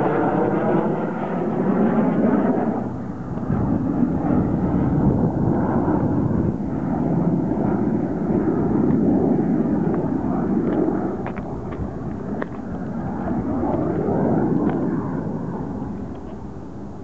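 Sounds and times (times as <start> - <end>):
distant aircraft engine rumble: 0.0 - 17.0.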